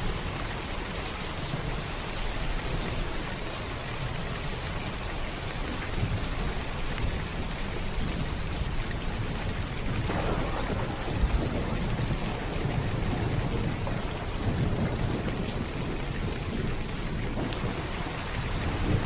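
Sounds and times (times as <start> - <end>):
heavy rain on a rooftop: 0.0 - 19.0
low rumble of thunder: 0.0 - 19.0.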